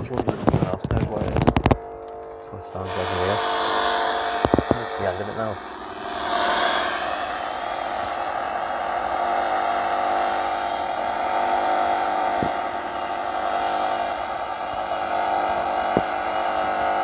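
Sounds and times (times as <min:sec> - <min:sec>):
radio static hiss: 0:00.0 - 0:17.0
steady hums: 0:00.0 - 0:17.0
wavering whistle tones: 0:01.2 - 0:17.0.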